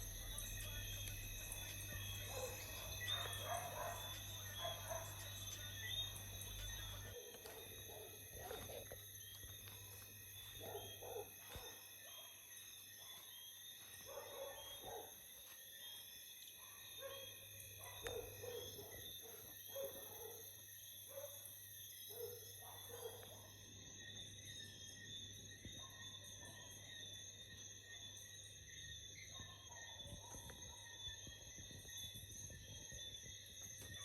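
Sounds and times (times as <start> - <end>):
insect trilling: 0.0 - 34.0.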